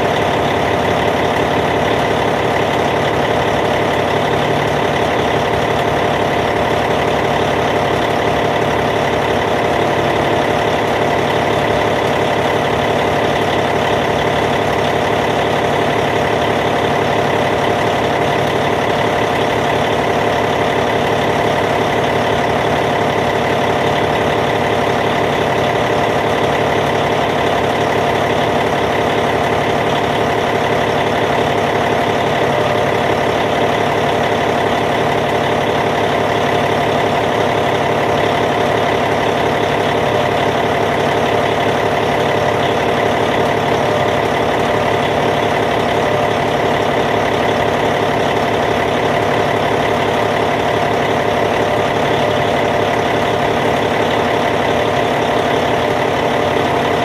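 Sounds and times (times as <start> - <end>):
bulldozer diesel engine idling: 0.0 - 57.0.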